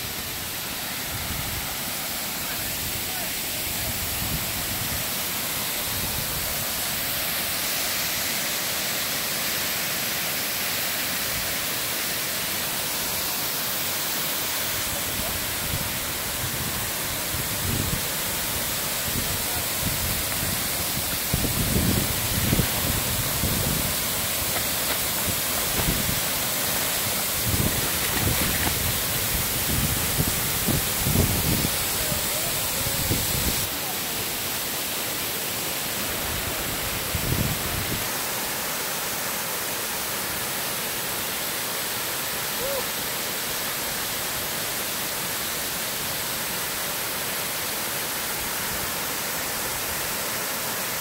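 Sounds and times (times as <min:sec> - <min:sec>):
waterfall rushing hiss: 0:00.0 - 0:51.0.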